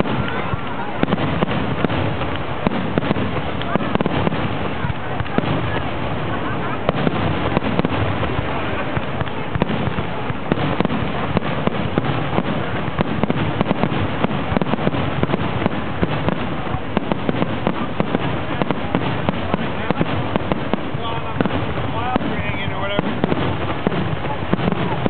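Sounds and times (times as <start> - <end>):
continuous rumble: 0.0 - 25.0
distant fireworks bangs: 0.0 - 25.0.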